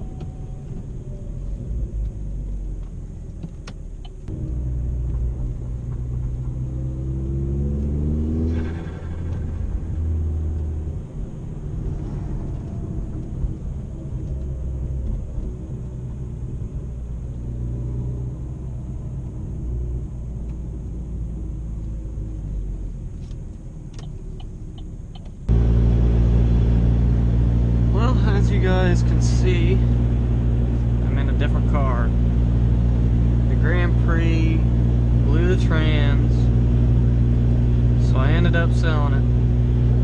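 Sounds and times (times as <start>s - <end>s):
car engine rumbling: 0.0s - 40.0s.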